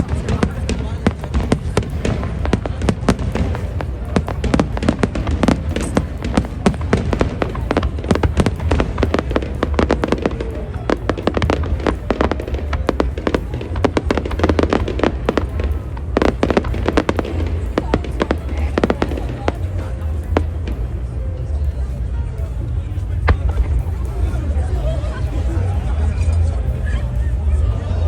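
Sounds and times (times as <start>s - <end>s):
fireworks bangs and crackles: 0.0s - 28.0s
low rumble of distant bursts: 0.0s - 28.0s.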